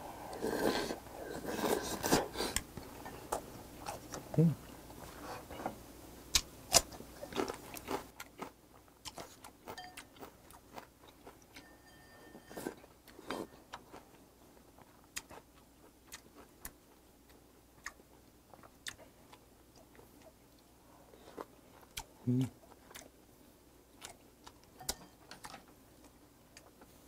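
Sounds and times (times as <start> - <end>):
close-miked chewing: 0.3 - 5.6, 6.3 - 11.7, 12.5 - 23.2, 23.9 - 27.0.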